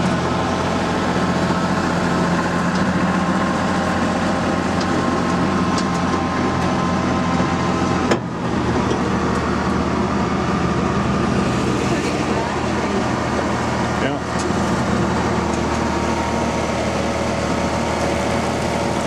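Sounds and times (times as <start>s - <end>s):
tram engine running: 0.0s - 19.0s.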